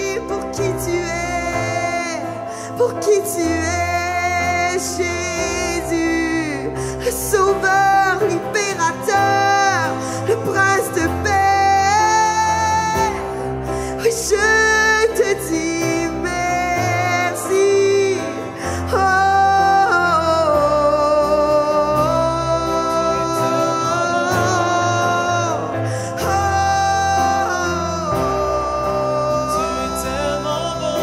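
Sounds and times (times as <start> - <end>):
woman singing: 0.0 - 13.4, 14.0 - 31.0
keyboard chords: 0.0 - 31.0.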